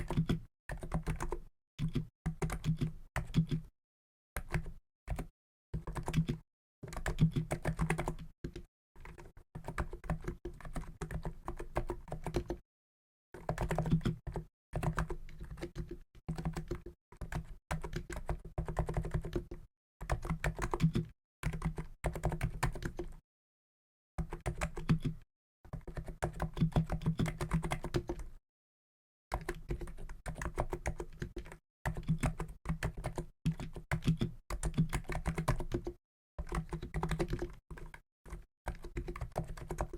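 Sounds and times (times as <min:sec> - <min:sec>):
keyboard typing: 0:00.0 - 0:03.7, 0:04.4 - 0:12.6, 0:13.4 - 0:23.2, 0:24.2 - 0:28.3, 0:29.3 - 0:39.9.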